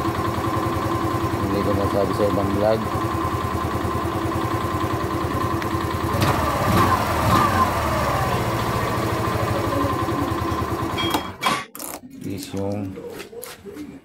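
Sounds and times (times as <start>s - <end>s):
scooter engine idling: 0.0s - 11.4s.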